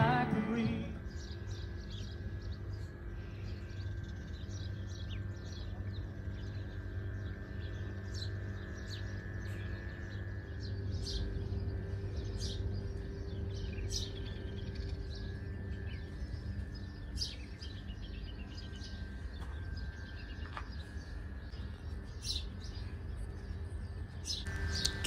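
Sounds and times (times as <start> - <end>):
birds chirping: 0.0 - 25.0
low background hum: 0.0 - 25.0.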